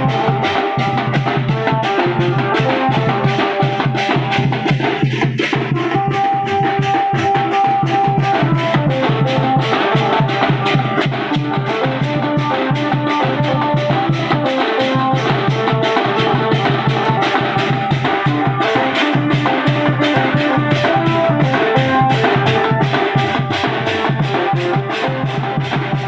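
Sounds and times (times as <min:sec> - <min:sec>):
barrel drums beating fast rhythm: 0:00.0 - 0:26.0
held-note melody: 0:00.0 - 0:26.0.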